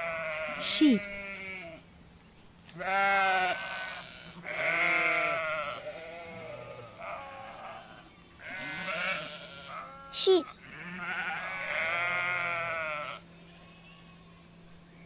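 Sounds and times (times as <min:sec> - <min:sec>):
sheep bleating: 0:00.0 - 0:01.8, 0:02.8 - 0:13.8.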